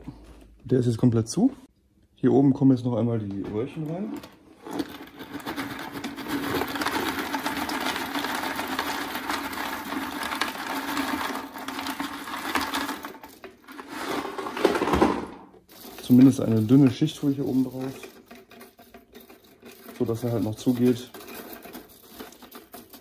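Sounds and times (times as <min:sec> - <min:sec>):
small plastic pieces clattering: 0:03.9 - 0:23.0.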